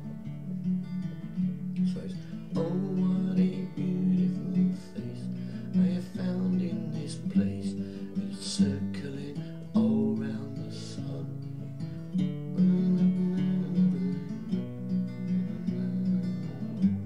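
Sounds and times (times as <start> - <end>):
fingerpicked acoustic guitar: 0.0 - 17.0.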